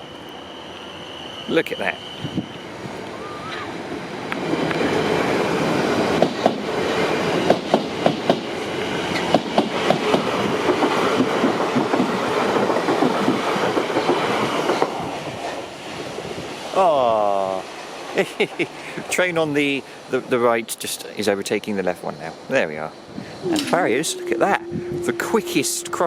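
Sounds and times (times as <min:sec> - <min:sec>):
train rail rumble: 0:00.0 - 0:26.0.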